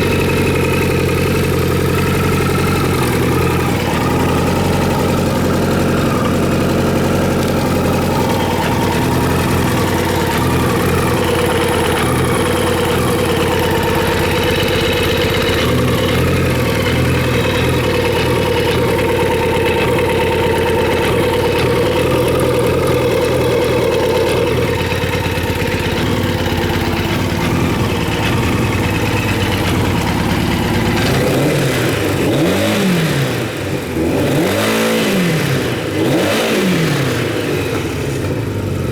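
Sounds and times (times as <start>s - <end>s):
engine revving: 0.0s - 38.9s
motorcycle engine idling: 0.0s - 38.9s.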